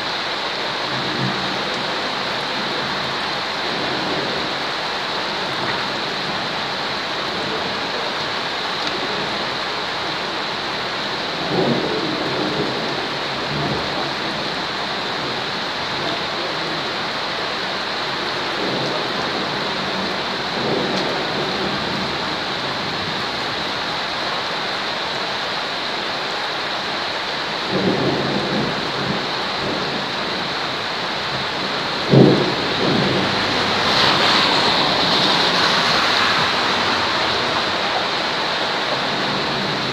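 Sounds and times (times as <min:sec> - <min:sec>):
thunder rumbling: 0:00.0 - 0:24.4, 0:27.5 - 0:39.9
heavy rain: 0:00.0 - 0:39.9.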